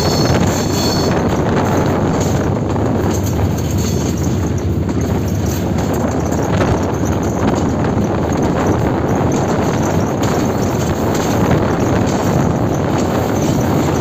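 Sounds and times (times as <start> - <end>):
high wheel squeal: 0.0 - 2.6, 3.7 - 14.0
locomotive wheels and engine rumble: 0.0 - 14.0.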